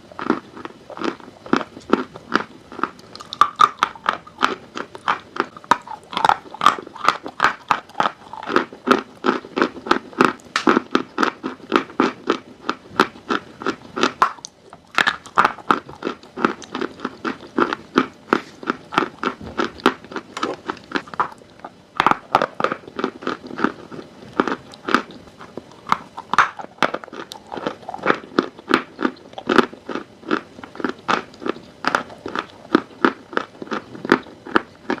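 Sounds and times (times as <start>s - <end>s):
chewing dry chalk crunching: 0.0s - 35.0s.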